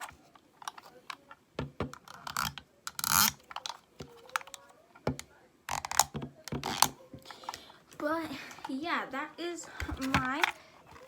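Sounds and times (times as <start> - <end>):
plastic piece scraping: 0.0 - 7.8, 9.7 - 11.0.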